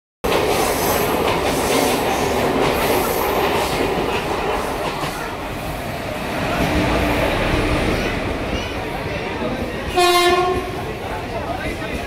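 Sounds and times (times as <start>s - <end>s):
train wheels rumbling on rails: 0.2s - 12.0s.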